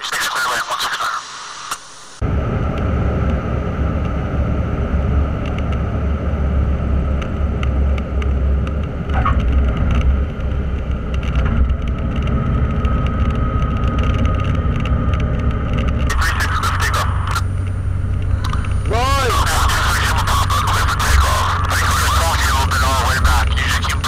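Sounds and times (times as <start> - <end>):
small plane engine running: 2.2 - 24.0.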